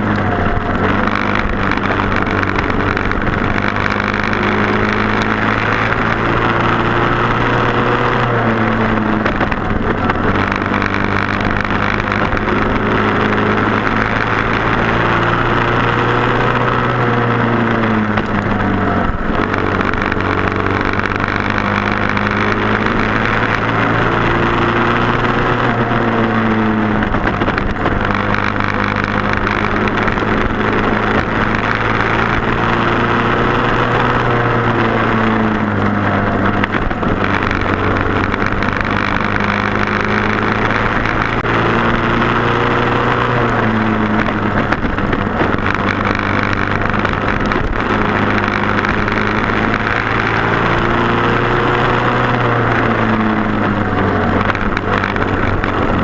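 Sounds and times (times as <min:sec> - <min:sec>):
kart engines racing: 0:00.0 - 0:56.0.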